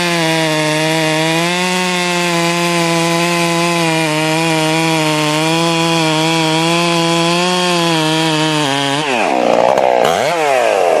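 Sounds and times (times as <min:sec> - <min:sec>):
chainsaw cutting wood: 0:00.0 - 0:11.0.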